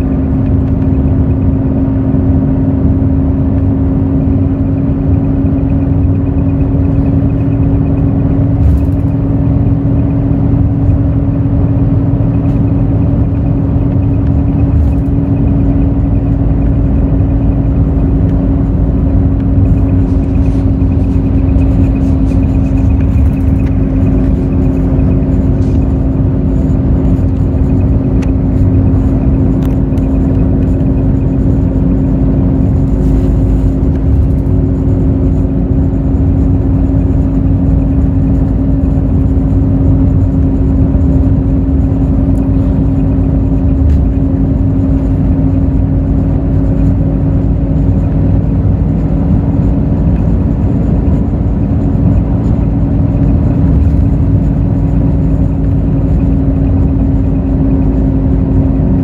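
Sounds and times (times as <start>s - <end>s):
bus engine droning: 0.0s - 59.0s
road rumble: 0.0s - 59.0s
steady engine whine: 0.0s - 59.0s.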